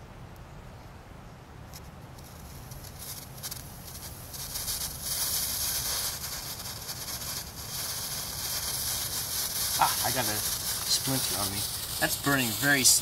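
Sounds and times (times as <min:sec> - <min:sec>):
rocket motor fizzing hiss: 0:02.2 - 0:13.0.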